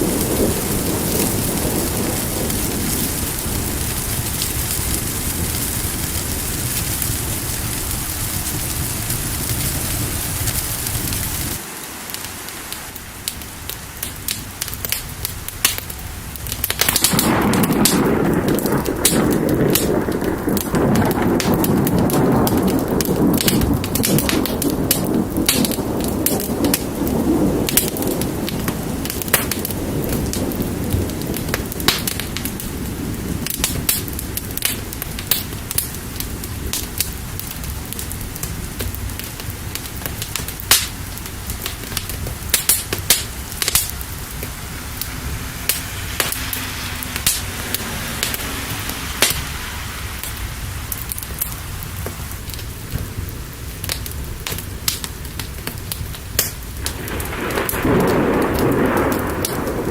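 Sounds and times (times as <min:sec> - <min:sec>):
thunder rumbling: 0:00.0 - 0:11.7, 0:12.9 - 0:59.9
steady rain: 0:00.0 - 0:59.9
wood fire crackling and popping: 0:00.0 - 0:59.9.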